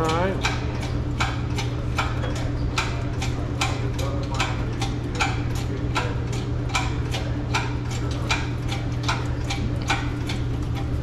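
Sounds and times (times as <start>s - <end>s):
steady low hum: 0.0s - 11.0s
engine hoist mechanism clicking: 0.1s - 11.0s.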